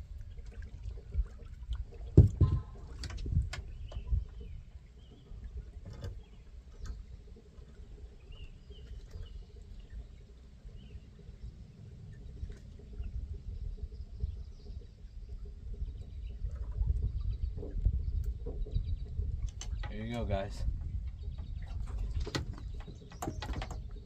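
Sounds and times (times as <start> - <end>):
wind and water rumble: 0.0 - 24.0
knocks and thumps in boat: 0.3 - 9.4, 12.8 - 24.0.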